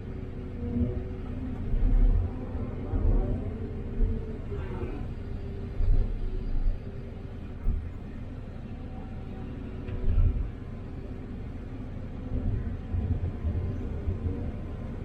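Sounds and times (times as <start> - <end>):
excavator engine and hydraulics rumbling: 0.0 - 15.0.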